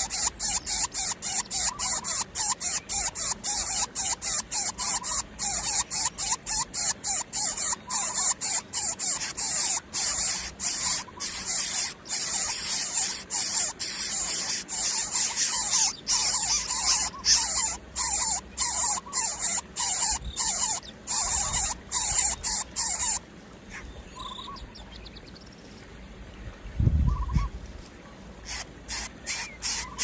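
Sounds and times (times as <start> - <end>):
chicks hissing: 0.0 - 23.8, 28.4 - 30.0
faint chick squeaks: 0.0 - 24.4, 28.5 - 30.0.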